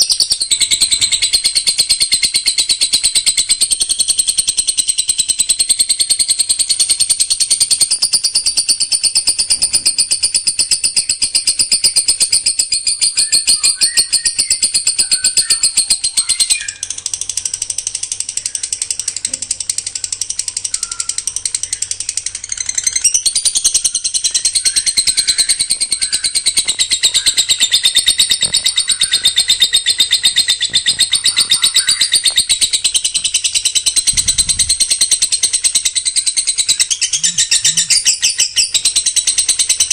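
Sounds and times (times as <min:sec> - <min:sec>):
songbird rapid trill: 0:00.0 - 0:39.9.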